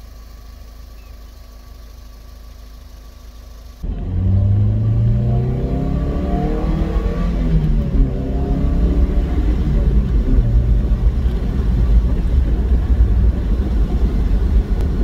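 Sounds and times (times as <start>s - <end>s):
car engine running: 0.0s - 15.0s
road rumble: 0.0s - 15.0s.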